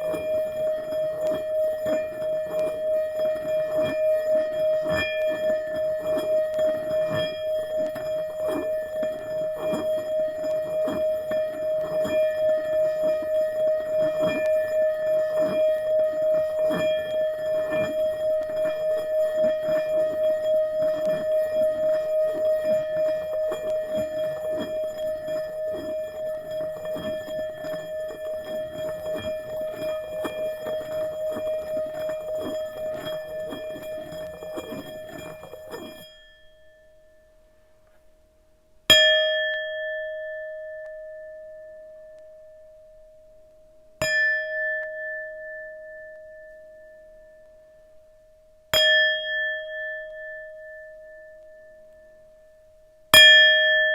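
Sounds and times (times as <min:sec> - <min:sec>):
singing bowl sustained ringing: 0:00.0 - 0:37.8, 0:39.0 - 0:53.9.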